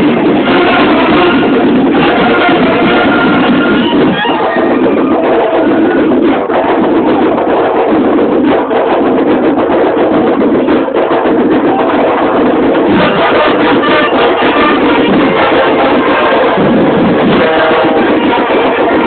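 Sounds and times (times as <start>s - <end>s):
band playing loud music: 0.0s - 19.0s
percussion hits: 0.0s - 19.0s.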